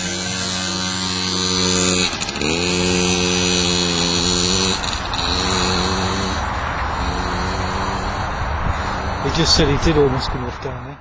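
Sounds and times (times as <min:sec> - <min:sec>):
small two-stroke engine buzzing: 0:00.0 - 0:09.8.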